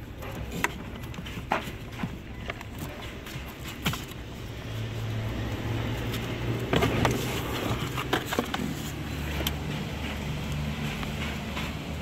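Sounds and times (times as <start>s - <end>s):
core scraping and knocking plastic: 0.1s - 4.8s, 5.8s - 12.0s.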